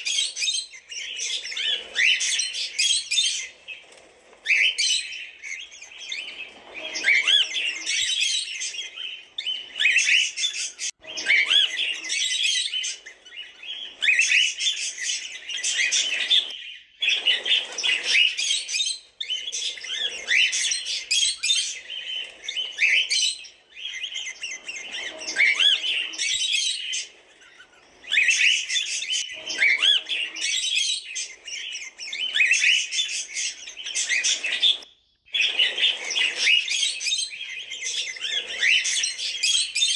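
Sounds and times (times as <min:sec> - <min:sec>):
cockatiels chirping and whistling: 0:00.0 - 0:39.9.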